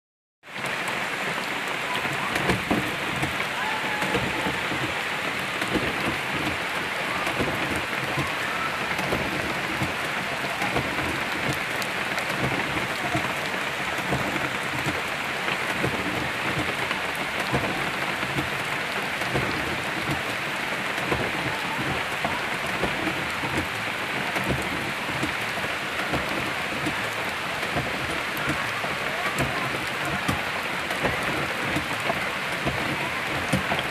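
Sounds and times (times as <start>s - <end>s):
heavy rain on trees and gravel: 0.4s - 33.9s.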